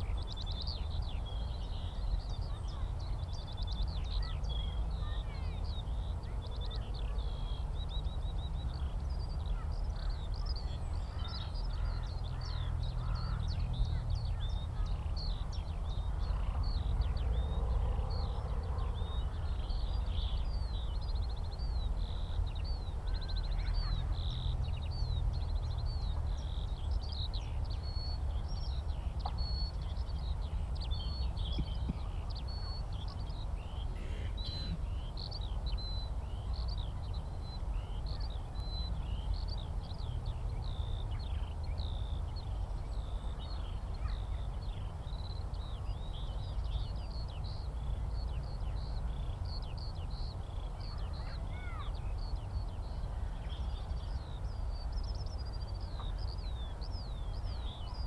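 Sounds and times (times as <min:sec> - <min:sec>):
skylark singing: 0:00.0 - 0:58.0.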